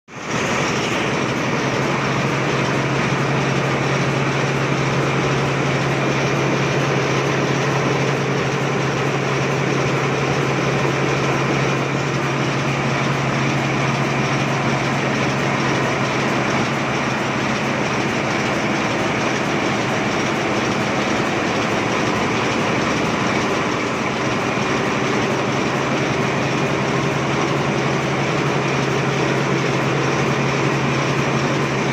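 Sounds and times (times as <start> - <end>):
machine running loudly: 0.1 - 31.9.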